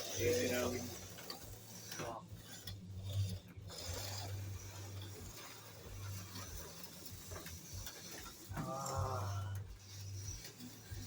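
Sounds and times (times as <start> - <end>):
slot car motors whirring: 0.0 - 11.0.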